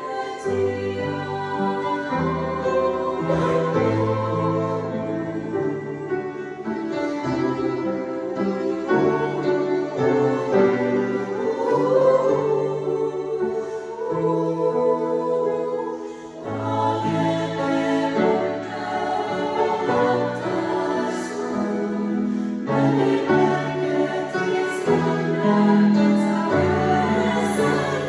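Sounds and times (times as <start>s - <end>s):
women's choir singing: 0.0s - 28.0s.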